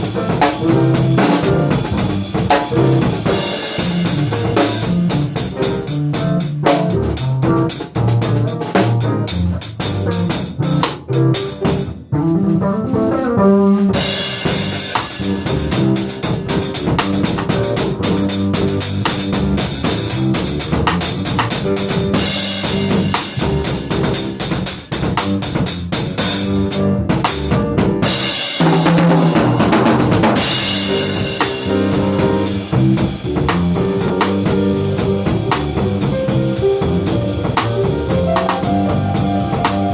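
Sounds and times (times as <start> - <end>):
drum kit funk groove: 0.0 - 12.1, 13.9 - 39.9
electric bass line: 0.0 - 39.9.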